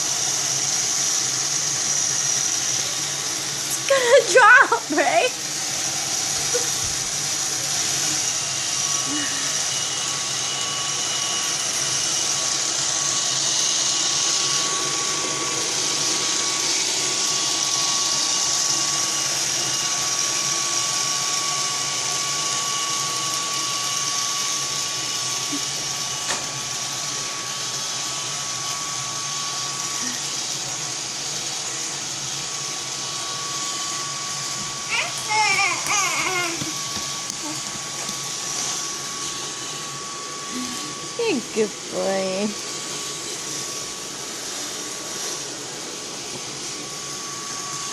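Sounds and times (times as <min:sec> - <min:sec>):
robot vacuum whirring: 0:00.0 - 0:47.9.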